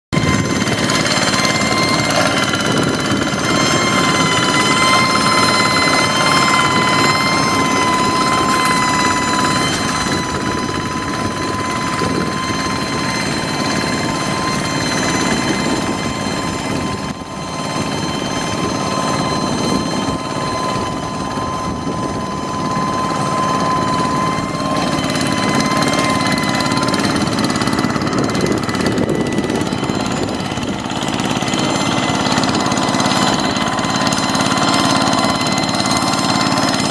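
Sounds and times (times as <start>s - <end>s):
hand tractor engine running: 0.1s - 36.9s
high whine: 0.1s - 36.9s.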